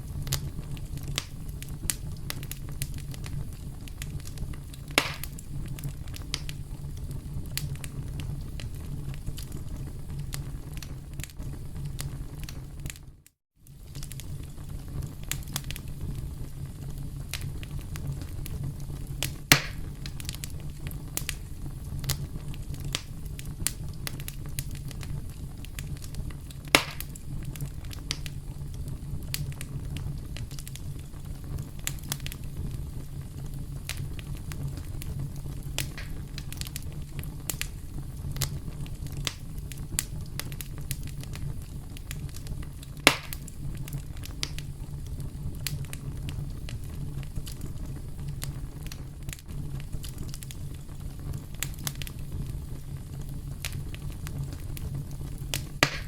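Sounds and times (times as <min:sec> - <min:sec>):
burning wood popping: 0:00.0 - 0:56.0
wood fire crackling: 0:00.0 - 0:56.0.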